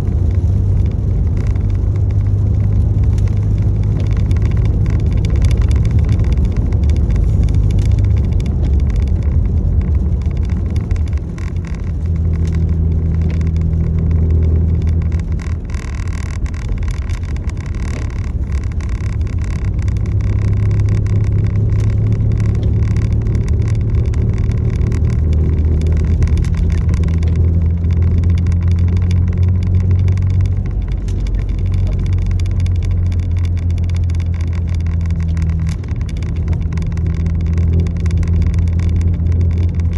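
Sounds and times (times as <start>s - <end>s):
constant hiss: 0.0s - 39.9s
low engine drone: 0.0s - 39.9s.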